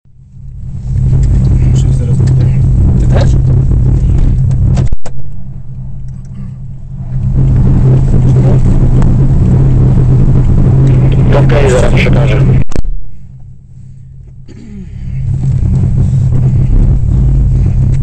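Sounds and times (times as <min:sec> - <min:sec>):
rally car engine running: 0:00.1 - 0:18.0.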